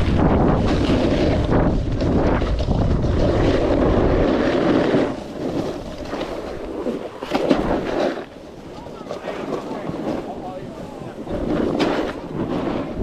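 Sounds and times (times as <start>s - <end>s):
snowboard scraping over snow: 0.0s - 13.0s
wind rumbling on microphone: 0.0s - 13.0s.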